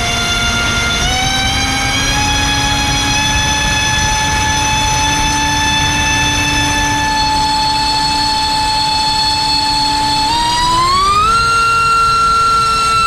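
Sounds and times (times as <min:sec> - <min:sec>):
electric motor propeller whine: 0:00.0 - 0:13.0.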